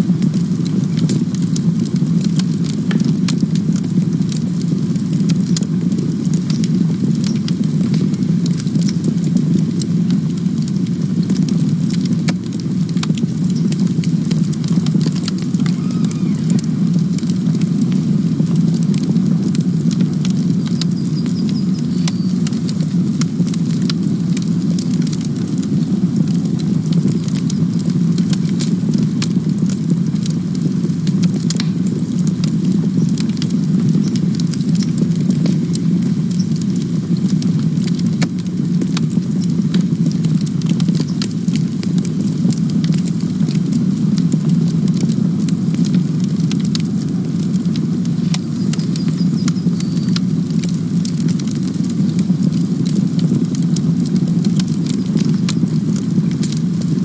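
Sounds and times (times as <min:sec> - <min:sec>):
burning wood crackling: 0:00.0 - 0:57.0
campfire flames rumbling: 0:00.0 - 0:57.0.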